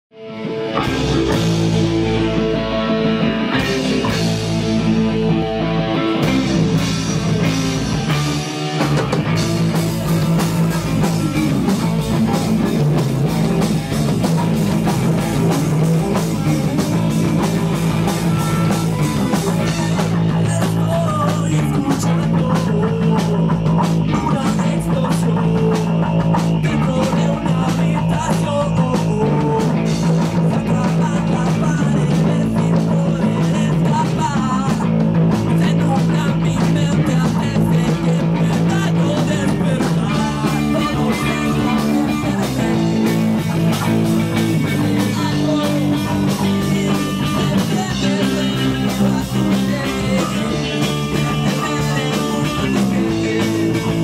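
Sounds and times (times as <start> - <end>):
rock music: 0.1 - 54.0
drumming: 0.6 - 54.0.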